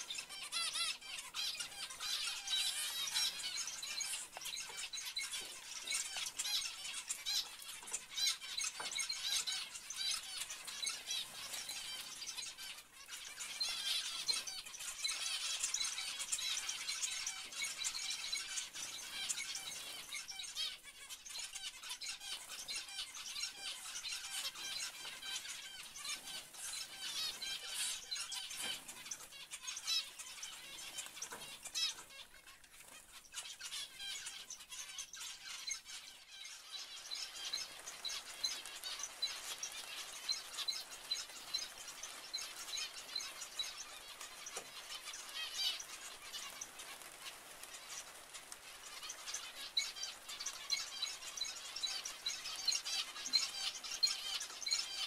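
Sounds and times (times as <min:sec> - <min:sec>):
finches chirping: 0:00.0 - 0:55.0.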